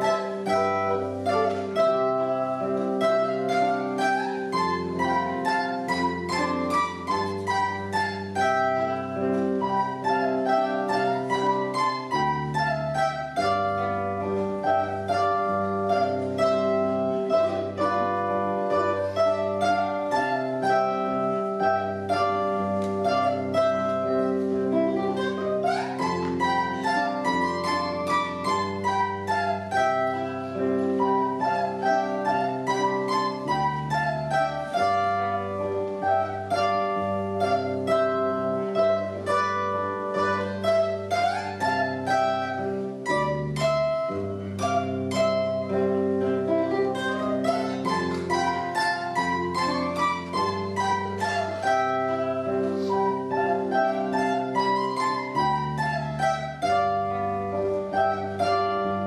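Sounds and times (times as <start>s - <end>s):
zither playing: 0.0s - 59.0s.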